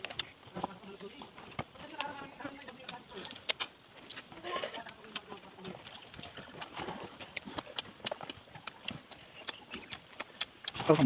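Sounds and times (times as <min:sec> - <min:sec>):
chewing and lip-smacking: 0:00.0 - 0:11.0.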